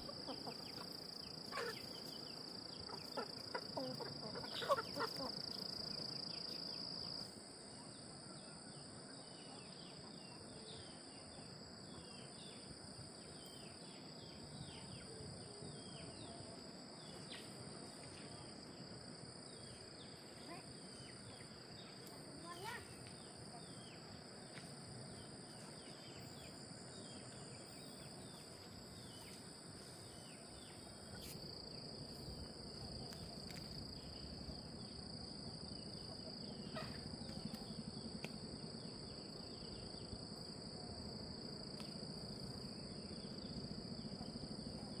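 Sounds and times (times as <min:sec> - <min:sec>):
insect chorus trilling: 0:00.0 - 0:45.0.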